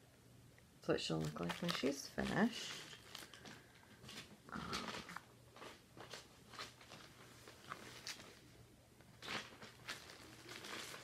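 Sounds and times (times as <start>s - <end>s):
plastic bag crinkling: 1.0s - 8.5s, 9.1s - 11.0s.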